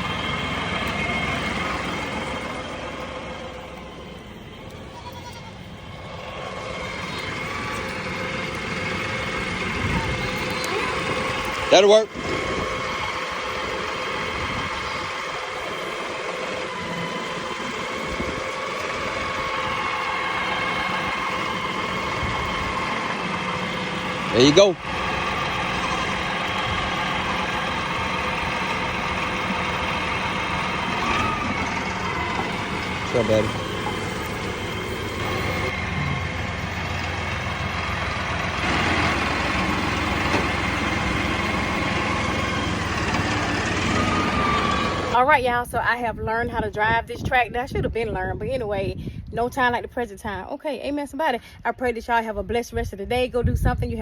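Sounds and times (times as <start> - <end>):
constant whine: 0.0 - 50.2
tractor engine running: 0.0 - 50.4.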